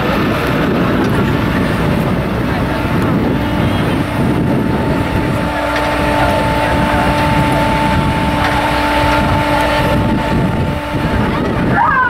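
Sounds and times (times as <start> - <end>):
hydraulic whine: 0.0 - 12.0
truck engine drone: 0.0 - 12.0.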